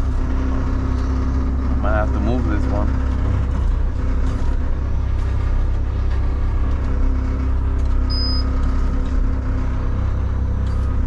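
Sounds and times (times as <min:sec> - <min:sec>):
diesel engine low rumble: 0:00.0 - 0:11.0.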